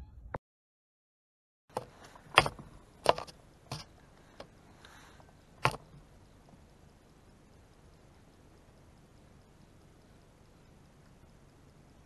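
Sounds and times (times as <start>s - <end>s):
faint hiss: 1.8s - 12.0s.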